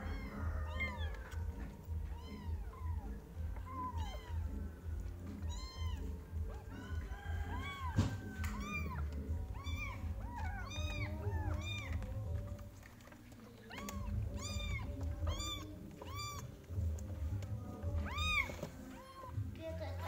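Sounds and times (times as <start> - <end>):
kittens mewing: 0.0 - 19.6.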